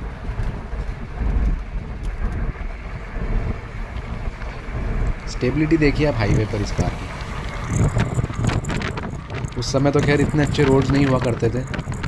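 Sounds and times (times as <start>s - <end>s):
road and engine rumble: 0.0s - 12.0s
wind buffeting microphone: 0.0s - 12.0s
wind rush: 0.0s - 12.0s.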